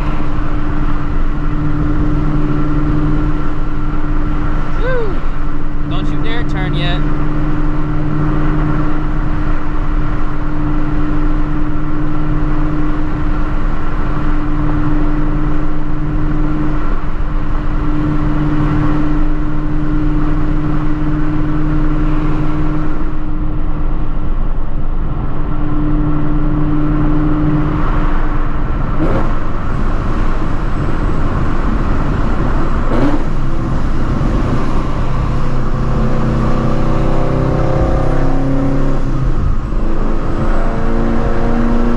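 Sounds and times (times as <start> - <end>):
car engine cruising drone: 0.0 - 41.9.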